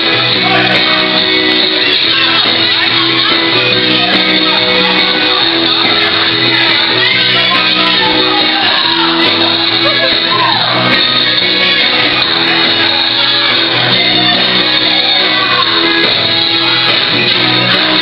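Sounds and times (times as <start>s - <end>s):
loud music in a hall: 0.0s - 18.0s
people shouting and singing: 0.0s - 18.0s.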